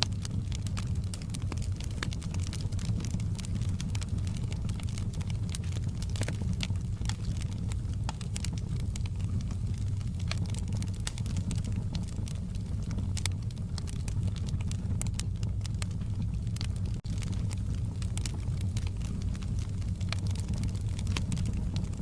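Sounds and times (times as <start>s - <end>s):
burning logs crackling and popping: 0.0s - 22.0s
low rumble of flames: 0.0s - 22.0s.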